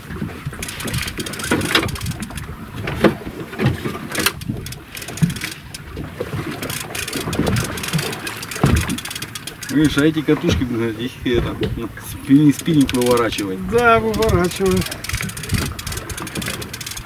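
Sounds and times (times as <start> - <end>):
wind buffeting microphone: 0.0 - 17.0
knocks and clicks from boat gear: 0.2 - 17.0.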